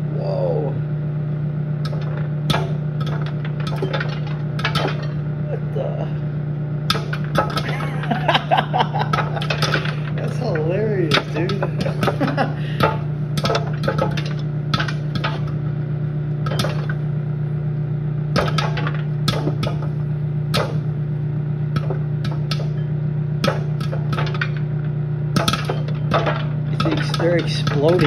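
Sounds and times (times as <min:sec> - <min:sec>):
microwave oven hum: 0:00.0 - 0:28.0
popcorn popping: 0:01.6 - 0:28.0.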